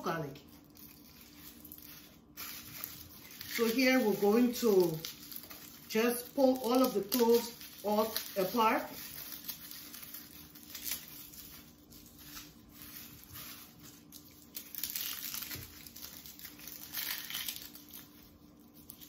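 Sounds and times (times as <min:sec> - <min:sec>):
garlic skins crinkling and tearing: 0:00.3 - 0:19.0.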